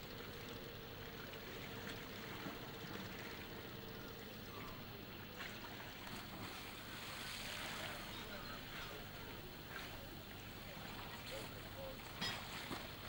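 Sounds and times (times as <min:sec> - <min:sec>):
faint outboard engine idling: 0:00.0 - 0:13.0
water and wind hissing: 0:00.0 - 0:13.0.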